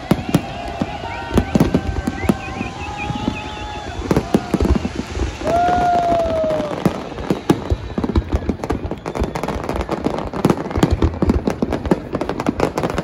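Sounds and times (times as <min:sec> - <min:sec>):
fireworks crackling and popping: 0:00.0 - 0:13.0
loud firework bangs: 0:00.0 - 0:13.0.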